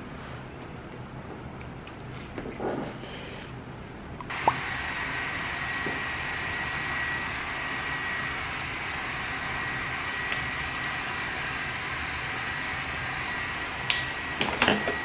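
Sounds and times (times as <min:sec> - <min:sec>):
room hiss: 0:02.9 - 0:15.0.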